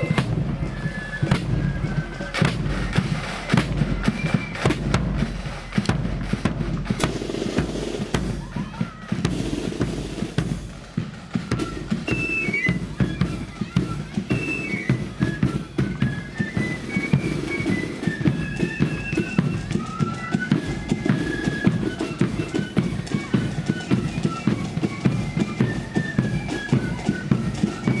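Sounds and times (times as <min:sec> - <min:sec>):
flutes playing melody: 0:00.0 - 0:28.0
snare and bass drum beats: 0:00.0 - 0:28.0.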